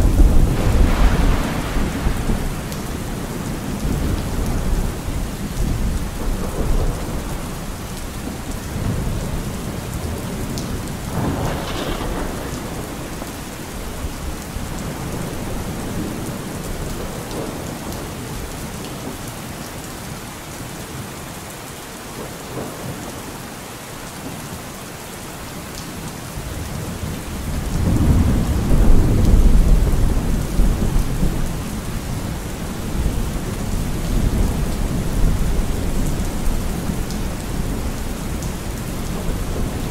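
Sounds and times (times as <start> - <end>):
rolling thunder rumbles: 0.0 - 18.6, 26.5 - 39.9
steady rain: 0.0 - 39.9.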